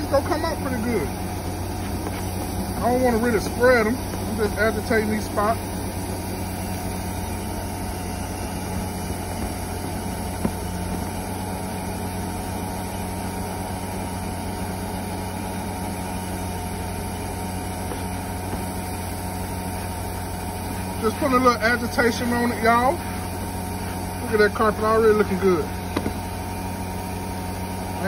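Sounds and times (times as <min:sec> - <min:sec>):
low machine drone: 0:00.0 - 0:28.0.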